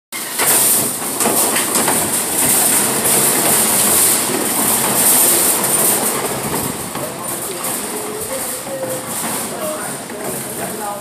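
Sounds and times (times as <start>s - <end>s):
shopping cart rattling: 0.2s - 11.0s.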